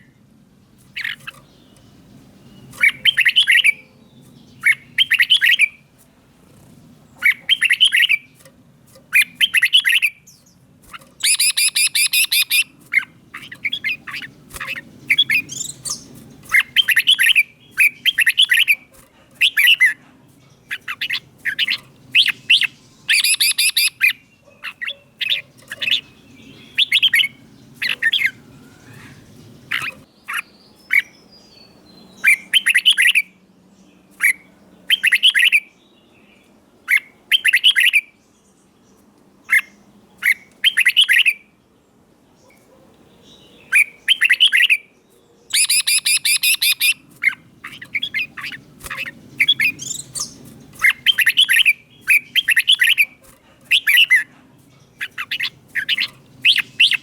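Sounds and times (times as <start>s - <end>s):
bulbul singing: 0.0s - 41.5s, 42.4s - 57.0s.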